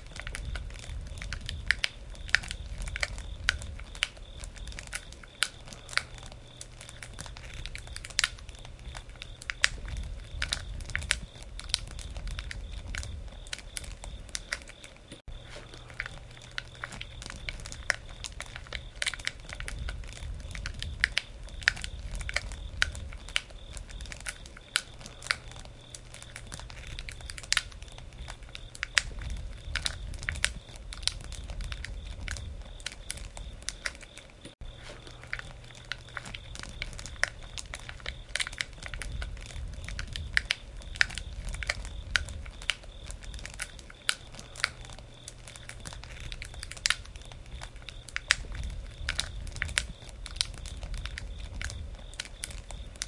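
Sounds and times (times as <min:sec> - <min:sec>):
campfire pops and snaps: 0:00.0 - 0:53.0
low rumble of burning: 0:00.0 - 0:53.0.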